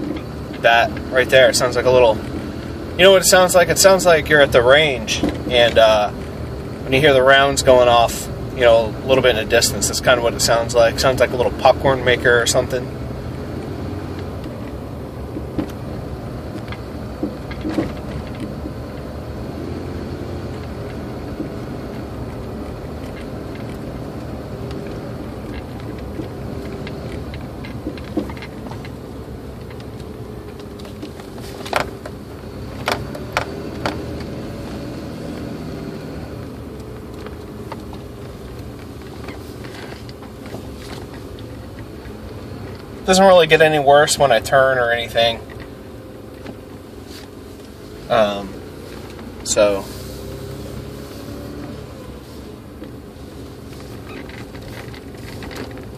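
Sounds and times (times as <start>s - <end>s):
engine and road noise in cab: 0.0s - 55.9s
suspension popping: 0.0s - 55.9s.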